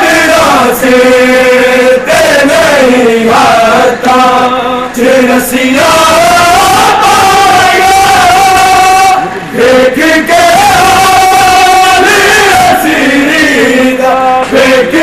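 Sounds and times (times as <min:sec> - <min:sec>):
men chanting a mourning lament: 0:00.0 - 0:15.0.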